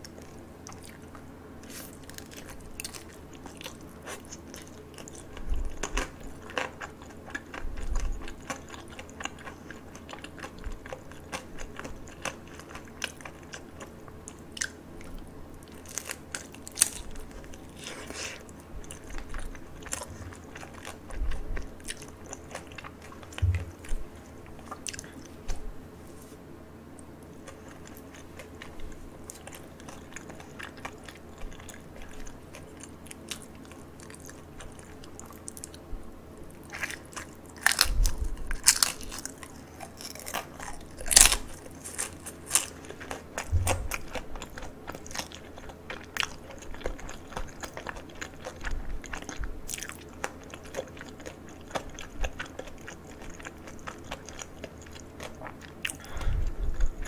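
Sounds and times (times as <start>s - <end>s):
chewing crispy food: 0.0s - 25.6s, 26.2s - 57.0s.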